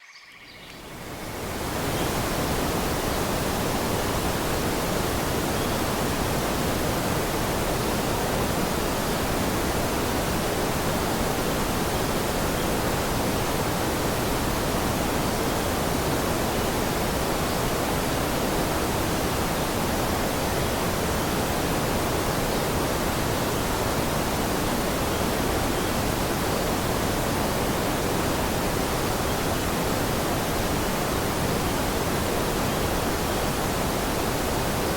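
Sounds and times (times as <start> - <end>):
rushing water: 0.7 - 34.9.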